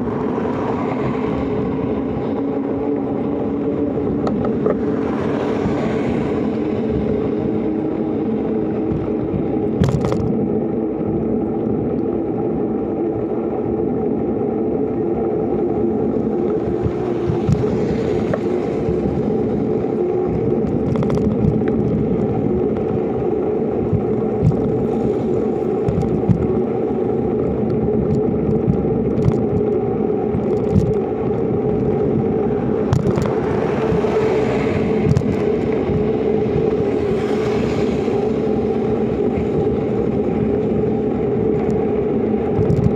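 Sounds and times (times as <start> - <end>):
bicycle tyre rolling on concrete: 0.0 - 42.9
passing vehicle: 0.0 - 42.9.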